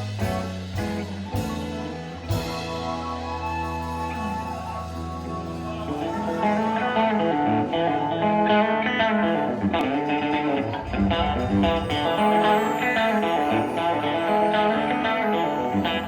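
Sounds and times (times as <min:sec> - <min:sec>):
guitar music with bass line: 0:00.0 - 0:16.0.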